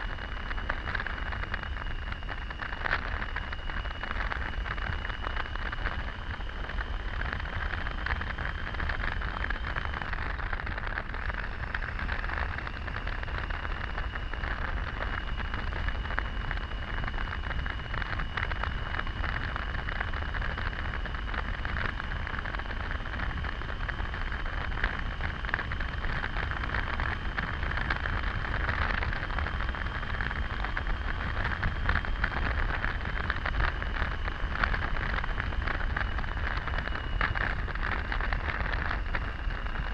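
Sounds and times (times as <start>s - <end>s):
motorcycle engine running: 0.0s - 39.9s
thin steady whine: 0.0s - 39.9s.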